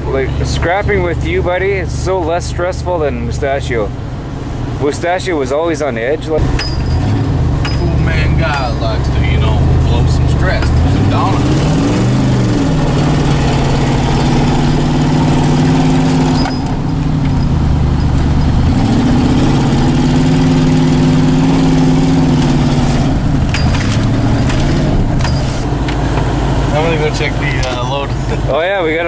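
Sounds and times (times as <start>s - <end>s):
pickup truck engine revving: 0.0s - 29.0s.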